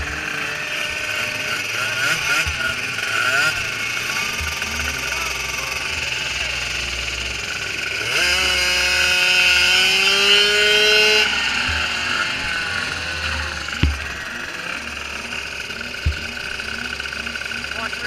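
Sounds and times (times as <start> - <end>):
atv engine revving sharply: 0.0 - 18.0
small atv engines running: 0.0 - 18.0.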